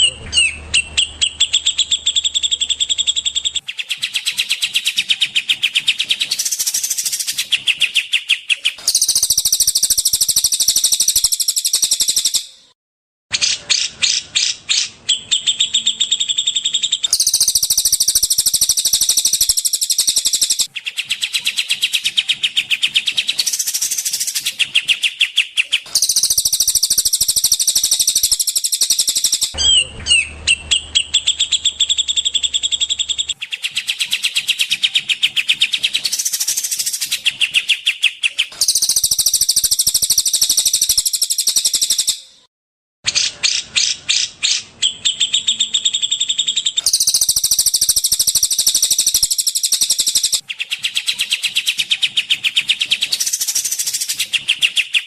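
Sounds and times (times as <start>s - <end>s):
songbirds trilling and chattering: 0.0s - 12.4s, 13.4s - 42.2s, 43.2s - 55.0s.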